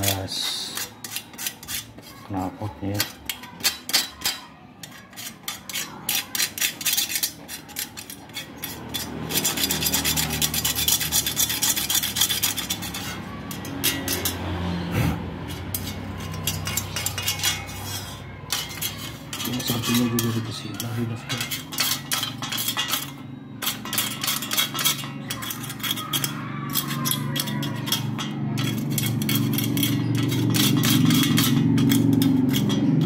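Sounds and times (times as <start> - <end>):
scraping gasket off metal: 0.0 - 33.0.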